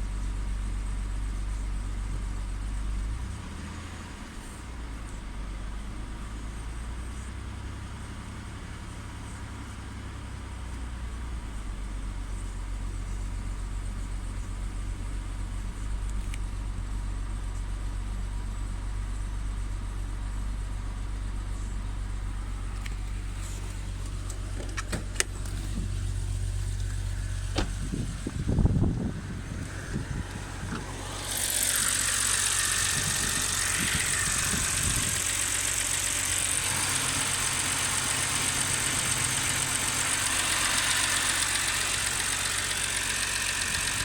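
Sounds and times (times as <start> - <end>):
misfiring car engine idling: 0.0 - 44.0.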